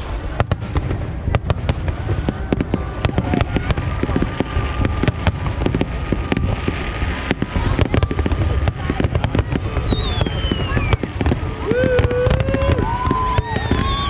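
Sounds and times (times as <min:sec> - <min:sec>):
fireworks bangs and crackling: 0:00.0 - 0:14.0
steady high tone: 0:00.0 - 0:14.0.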